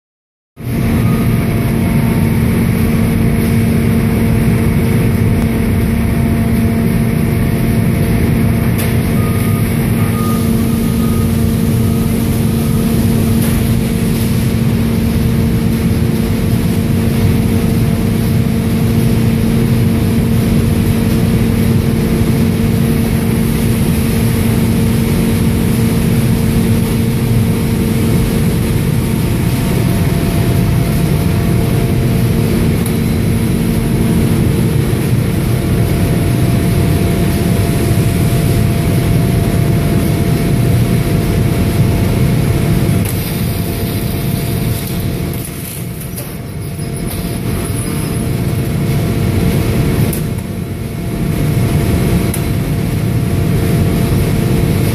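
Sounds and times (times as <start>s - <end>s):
conveyor machine hum: 0.6s - 54.9s.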